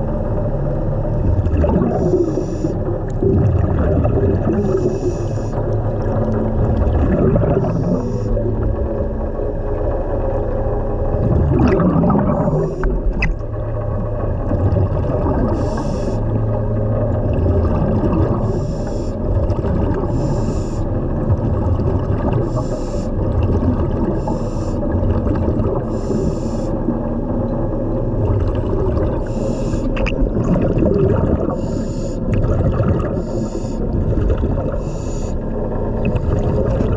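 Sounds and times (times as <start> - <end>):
low rumble of water: 0.0 - 36.9
diver breathing bubbles: 1.2 - 9.4, 11.0 - 27.4, 28.1 - 36.9.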